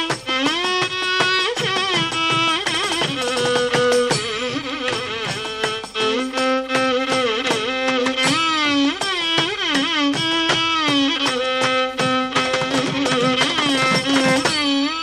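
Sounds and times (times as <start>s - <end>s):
drum strokes: 0.0s - 14.9s.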